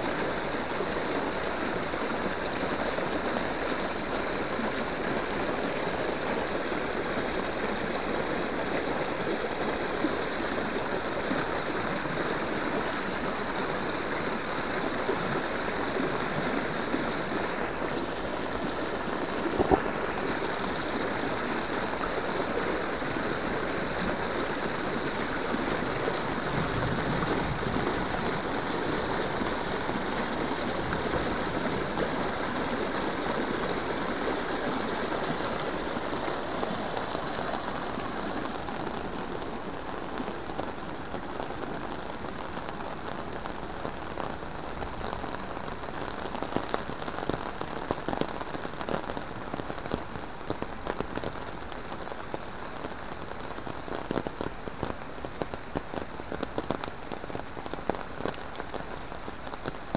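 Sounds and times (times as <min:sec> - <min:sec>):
heavy rain on concrete and leaves: 0:00.0 - 0:59.9
sharp rain taps: 0:08.7 - 0:59.9.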